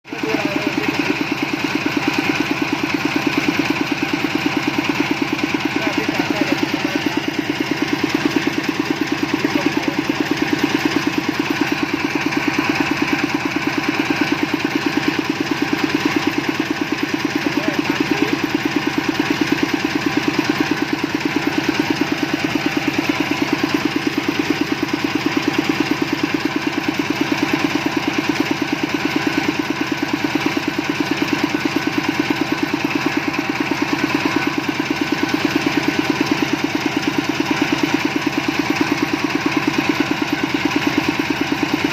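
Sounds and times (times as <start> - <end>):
drilling rig engine running: 0.1 - 41.9.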